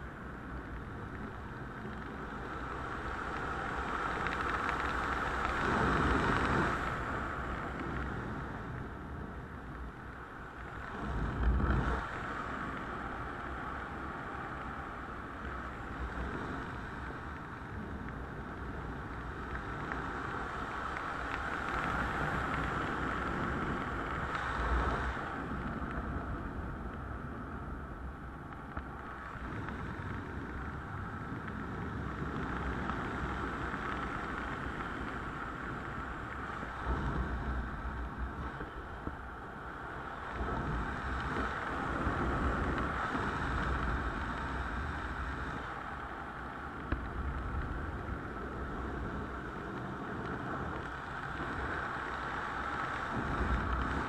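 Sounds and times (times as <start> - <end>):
low wind buffeting gusts: 0.0 - 54.0
wind rushing past camera: 0.0 - 54.0.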